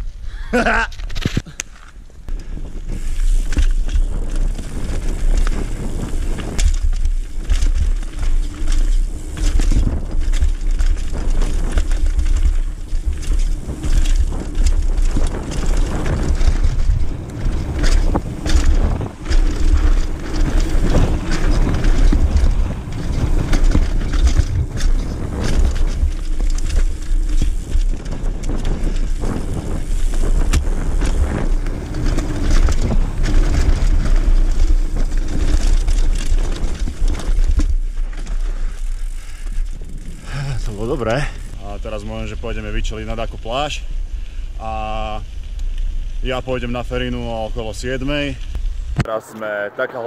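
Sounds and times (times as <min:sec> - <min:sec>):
tyre noise on dirt: 0:00.0 - 0:49.2
bike clacking and rattling: 0:00.5 - 0:49.0
wind buffeting microphone: 0:02.0 - 0:50.0.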